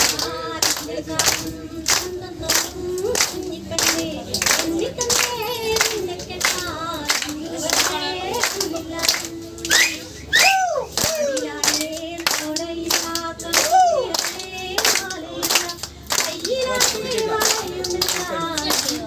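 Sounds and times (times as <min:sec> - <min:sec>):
group clapping in rhythm: 0:00.0 - 0:19.0
voices singing: 0:00.0 - 0:19.0.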